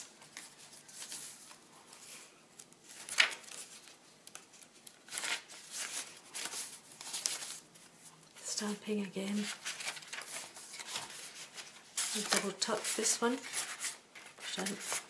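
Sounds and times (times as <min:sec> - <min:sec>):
paper and card rustling: 0:00.0 - 0:15.0.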